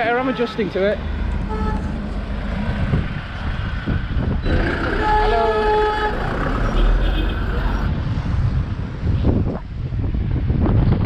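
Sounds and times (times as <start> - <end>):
traffic: 0.0 - 11.0
wind rumble on microphone: 1.4 - 11.0.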